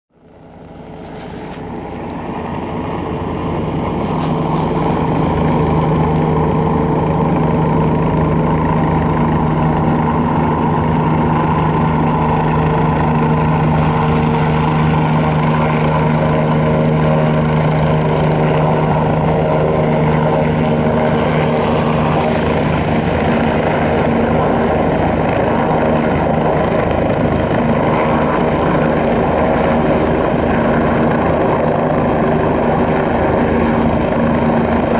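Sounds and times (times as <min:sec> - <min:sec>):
helicopter taxiing: 0:00.1 - 0:34.9.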